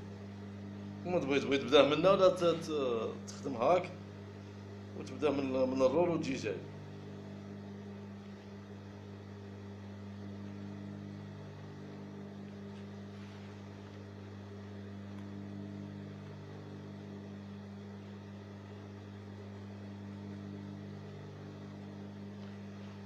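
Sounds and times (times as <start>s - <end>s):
electric hum: 0.0s - 23.0s.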